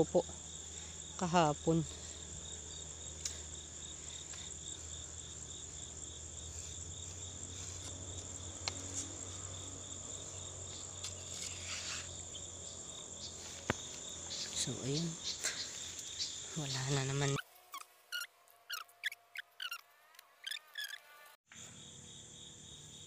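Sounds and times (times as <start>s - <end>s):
insects chirping: 0.0s - 19.8s, 20.4s - 23.0s.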